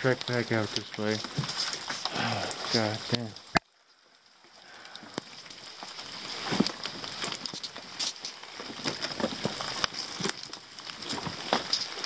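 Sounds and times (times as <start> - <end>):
rain patter: 0.0 - 12.0.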